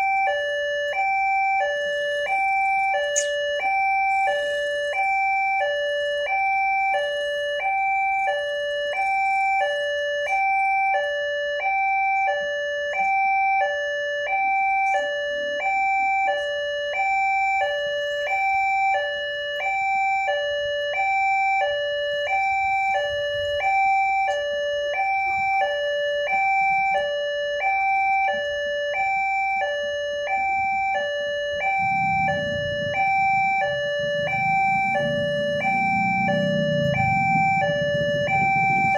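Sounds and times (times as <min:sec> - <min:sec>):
level crossing alarm ding-dong: 0:00.0 - 0:38.9.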